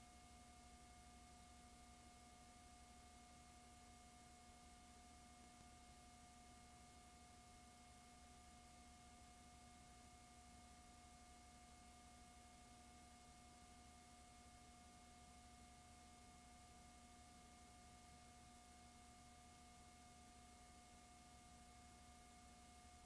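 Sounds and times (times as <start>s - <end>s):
tape hiss and electrical hum: 0.0s - 23.0s.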